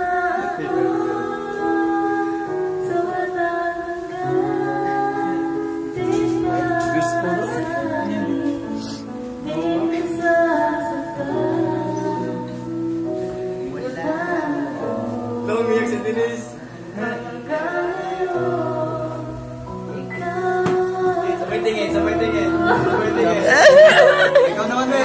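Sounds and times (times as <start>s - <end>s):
woman singing pop ballad: 0.0s - 16.0s, 16.9s - 24.4s
backing music: 0.0s - 25.0s.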